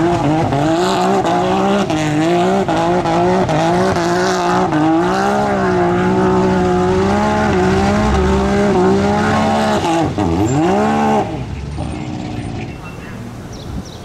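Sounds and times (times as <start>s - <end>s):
vehicle engine at high revs: 0.0s - 14.0s
wheels spinning through mud: 0.0s - 14.0s.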